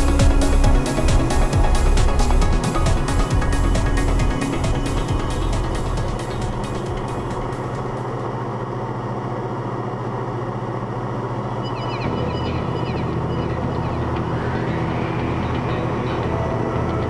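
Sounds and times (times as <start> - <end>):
light aircraft engine droning: 0.0 - 17.0.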